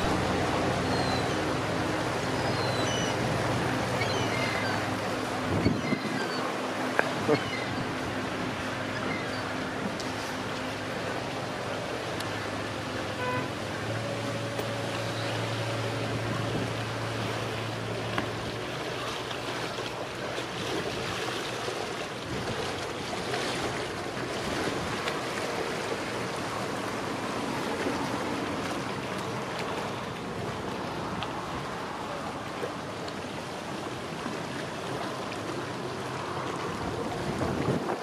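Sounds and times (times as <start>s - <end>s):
low engine hum: 0.0s - 38.0s
rippling river water: 0.0s - 38.0s
steady wind: 0.0s - 38.0s.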